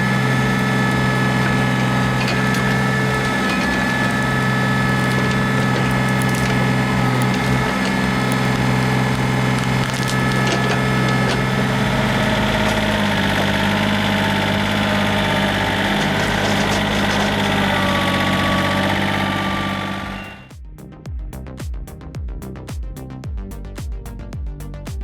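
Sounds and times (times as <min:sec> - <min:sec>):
tractor engine running: 0:00.0 - 0:20.5
wood cracking and splintering: 0:00.2 - 0:20.2.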